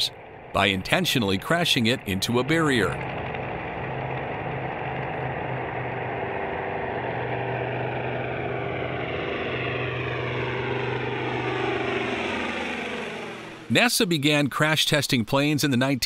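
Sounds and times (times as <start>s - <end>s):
propeller plane engines flyby: 0.0s - 13.9s.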